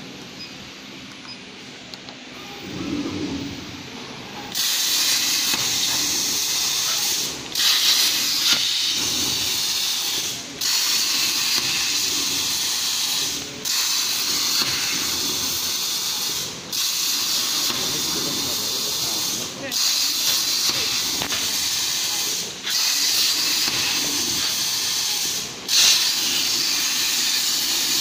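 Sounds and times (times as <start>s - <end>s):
plasma torch hissing: 2.5s - 28.0s.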